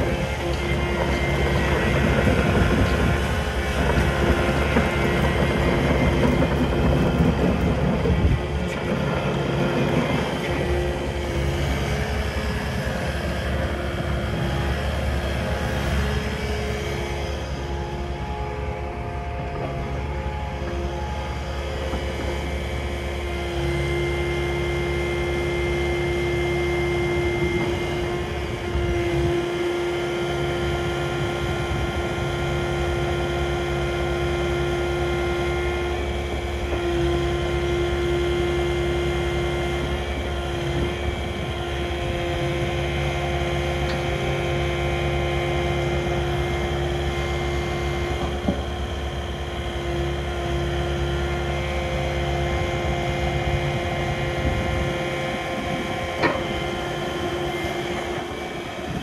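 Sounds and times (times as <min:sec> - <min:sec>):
excavator diesel engine: 0:00.0 - 0:59.0
hydraulic whine: 0:00.0 - 0:59.0.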